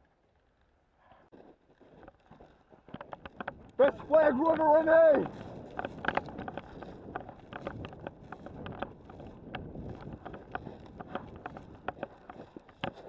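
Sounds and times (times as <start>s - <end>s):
wind rumbling on microphone: 2.3s - 13.0s.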